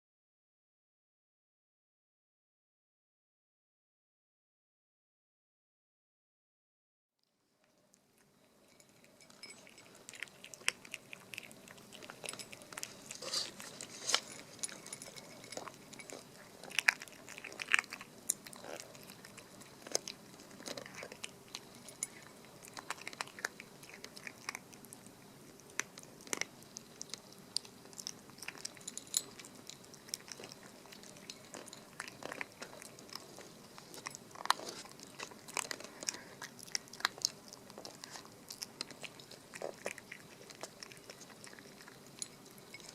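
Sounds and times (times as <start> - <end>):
puppy crunching kibble: 7.6 - 42.9.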